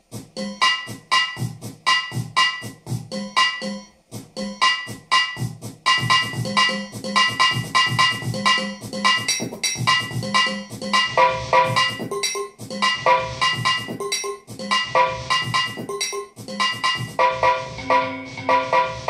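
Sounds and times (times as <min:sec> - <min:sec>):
looping pitched percussive samples: 0:00.0 - 0:19.0.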